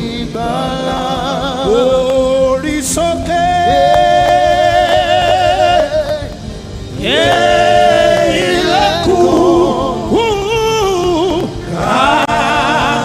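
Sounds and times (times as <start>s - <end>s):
musical accompaniment: 0.0s - 13.0s
person singing with vibrato: 0.0s - 13.0s.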